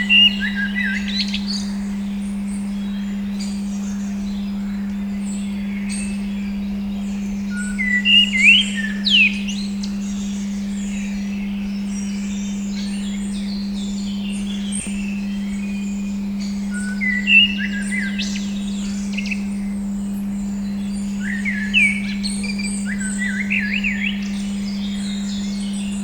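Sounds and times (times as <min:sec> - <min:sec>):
rising and falling bird calls: 0:00.0 - 0:26.0
small birds chirping: 0:00.0 - 0:26.0
steady pure tone: 0:00.0 - 0:26.0.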